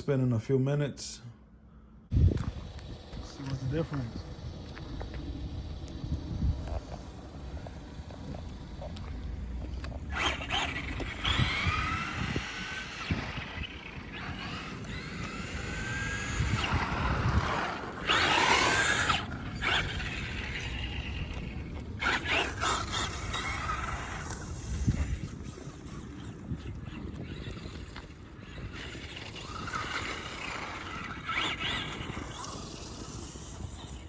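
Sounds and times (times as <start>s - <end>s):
electric motor whining: 2.1s - 34.0s.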